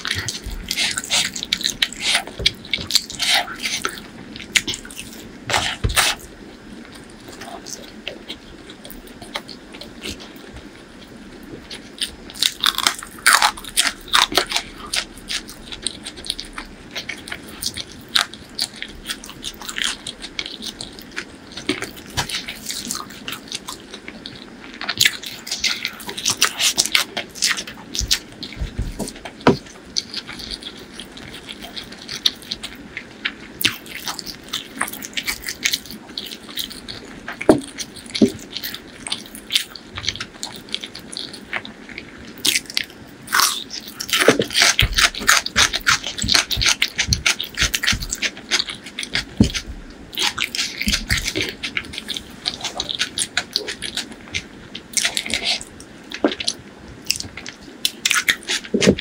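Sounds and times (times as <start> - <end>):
crunching bites of food: 11.7 - 59.0.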